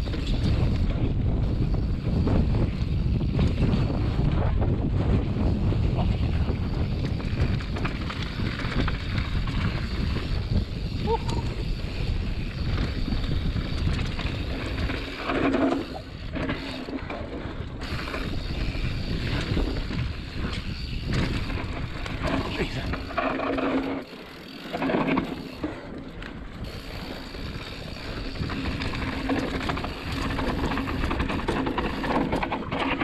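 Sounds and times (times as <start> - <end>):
bike rattling on bumps: 0.0 - 33.0
bike tyres rolling on dirt: 0.0 - 33.0
wind buffeting microphone: 0.0 - 33.0.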